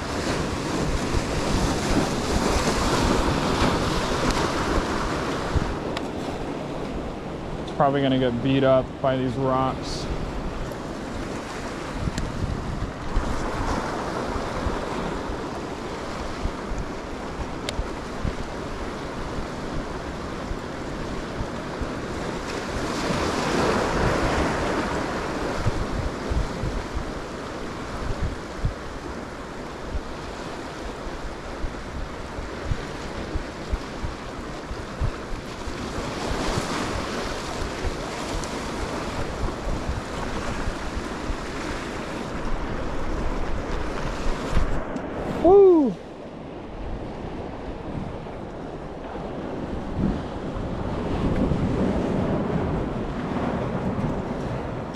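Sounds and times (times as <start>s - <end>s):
ocean surf washing in: 0.0s - 54.9s
wind rumbling on microphone: 0.0s - 54.9s.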